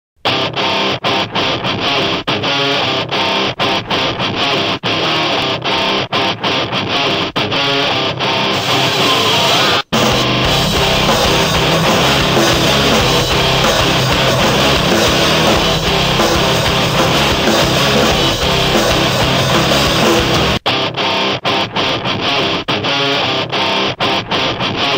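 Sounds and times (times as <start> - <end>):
rock music with electric guitar: 0.2 - 24.9.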